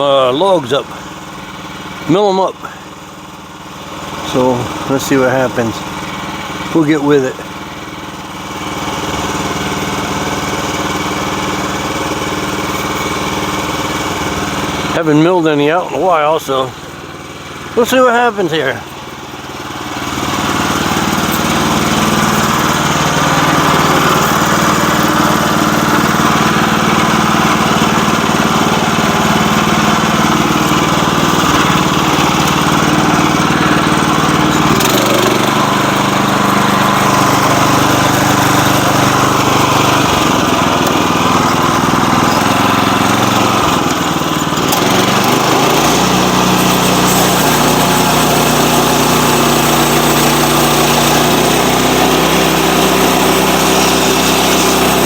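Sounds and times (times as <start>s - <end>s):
sawmill petrol engine running: 0.0s - 55.0s.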